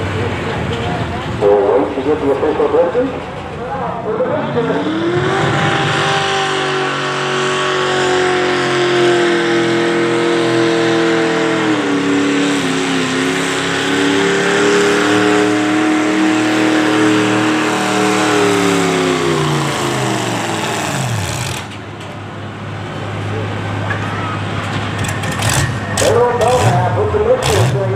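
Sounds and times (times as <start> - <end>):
pulling vehicle engine at full throttle: 0.0 - 27.9.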